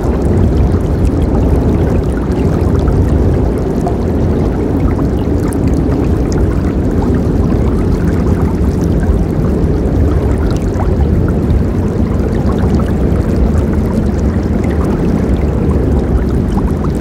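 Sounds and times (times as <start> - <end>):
small water splashes: 0.0 - 17.0.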